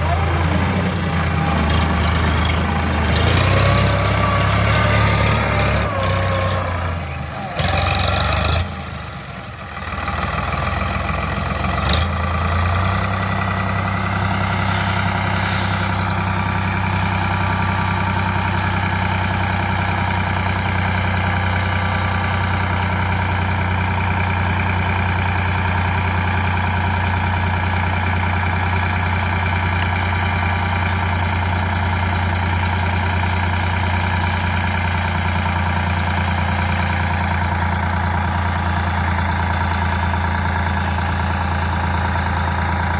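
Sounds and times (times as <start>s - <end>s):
tractor engine idling: 0.0s - 42.9s.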